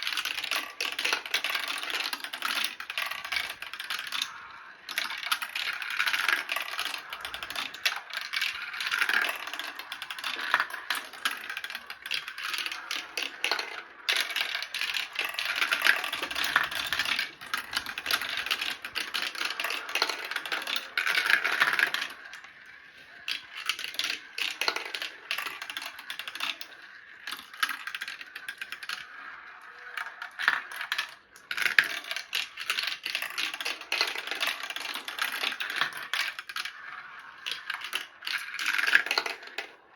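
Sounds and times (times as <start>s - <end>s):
marbles clattering down a run: 0.0s - 39.9s.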